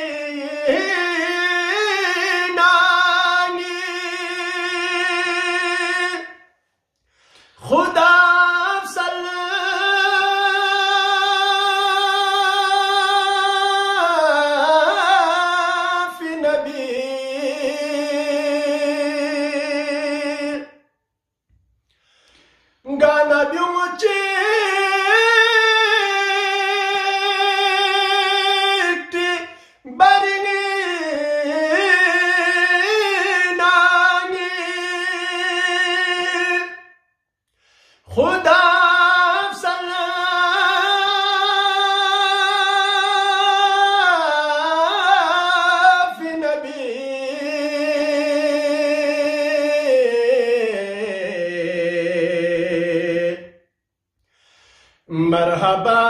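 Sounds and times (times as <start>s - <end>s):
man singing unaccompanied: 0.0s - 6.5s, 7.6s - 20.9s, 22.8s - 37.0s, 38.1s - 53.7s, 55.0s - 56.0s.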